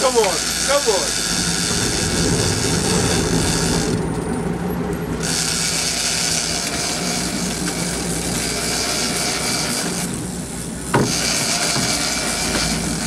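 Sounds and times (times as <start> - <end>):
fishing reel drag buzzing: 0.0 - 4.1, 5.2 - 10.4, 11.1 - 13.0
boat engine running: 0.0 - 13.0.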